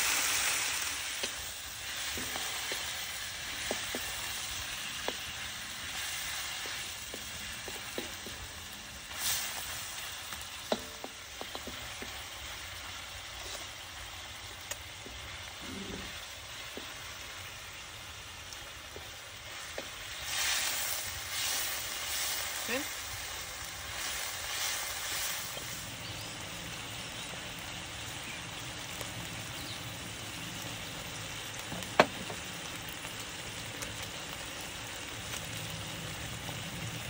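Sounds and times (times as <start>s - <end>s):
stir-fry sizzling in a wok: 0.0s - 37.0s.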